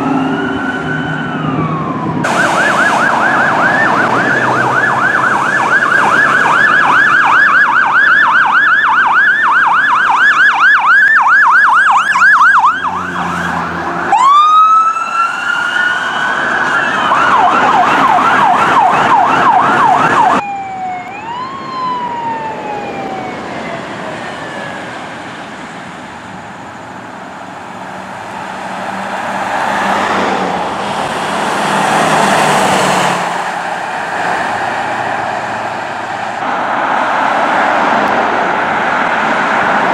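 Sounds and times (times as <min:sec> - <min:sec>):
fire truck siren: 0:00.0 - 0:39.9
traffic noise: 0:00.0 - 0:39.9.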